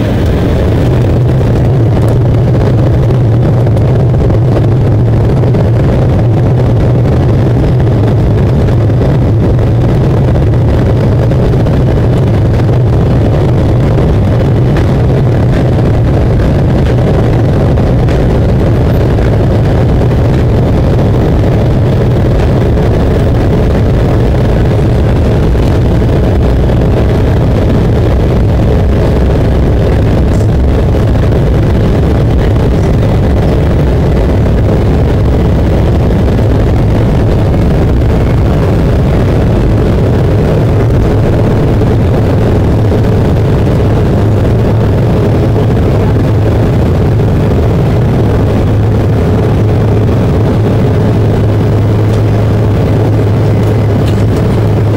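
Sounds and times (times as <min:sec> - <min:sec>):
jet engines roaring: 0:00.0 - 0:54.9
wheels rumbling on runway: 0:00.0 - 0:54.9.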